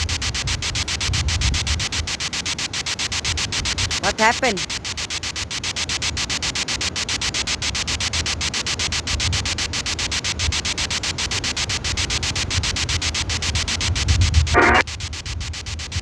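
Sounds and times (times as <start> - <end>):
radio static pulsing: 0.0 - 16.0.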